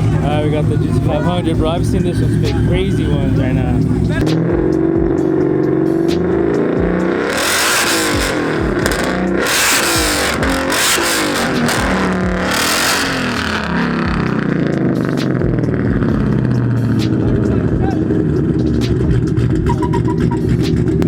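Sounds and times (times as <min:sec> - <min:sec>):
car engine revving hard: 0:00.0 - 0:21.0
loud exhaust blasts: 0:00.0 - 0:21.0.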